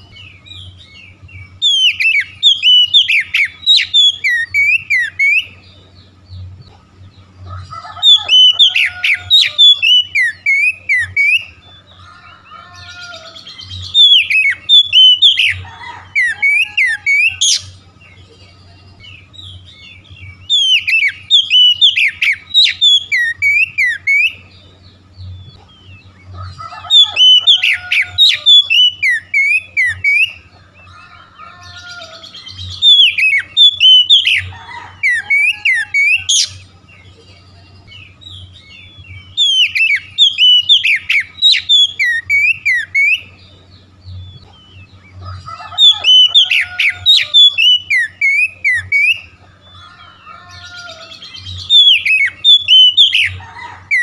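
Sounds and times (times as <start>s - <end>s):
bird twittering: 0.0s - 54.0s
bird whistled song: 0.0s - 54.0s.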